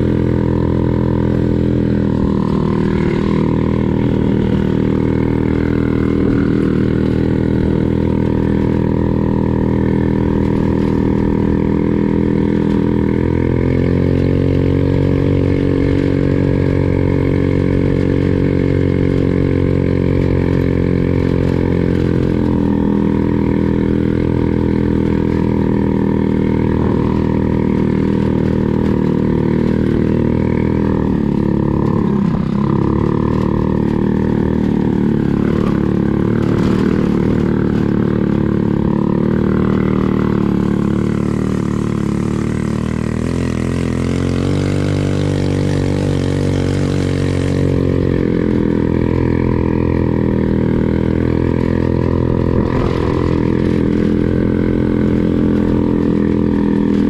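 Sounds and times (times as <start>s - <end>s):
small buggy engine running: 0.0s - 57.0s.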